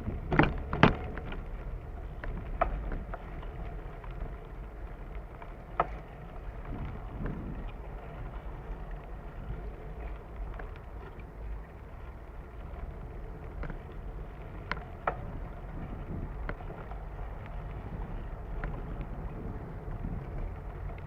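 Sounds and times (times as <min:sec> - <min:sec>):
bicycle tyre rumble: 0:00.0 - 0:21.0
wind buffeting: 0:00.0 - 0:21.0.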